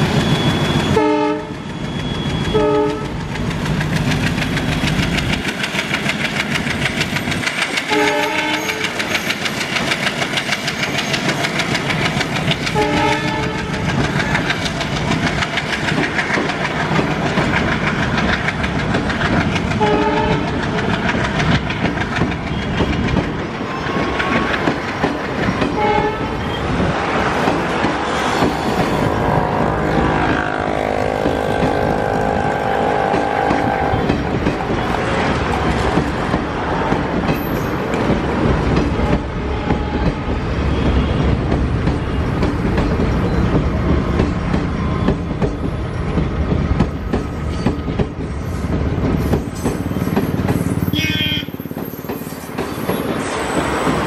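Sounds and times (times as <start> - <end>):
train wheels clattering on bridge: 0.0 - 54.0.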